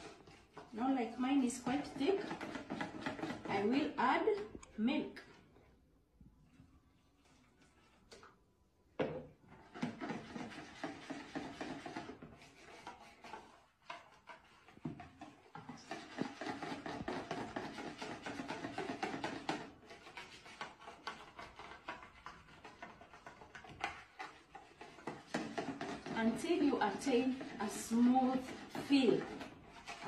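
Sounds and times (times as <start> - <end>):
whisk beating batter in bowl: 0.0 - 4.5, 9.5 - 30.0.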